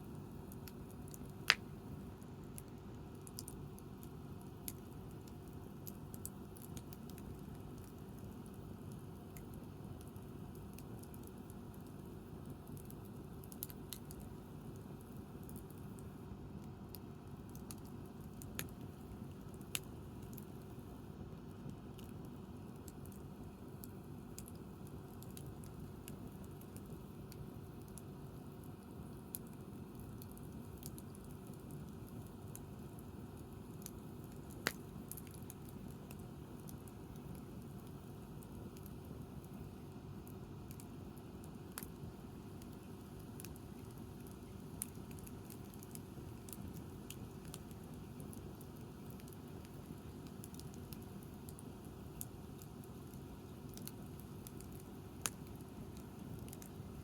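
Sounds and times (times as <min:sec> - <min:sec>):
campfire burning: 0:00.0 - 0:57.0
fire pops and crackles: 0:00.0 - 0:57.0.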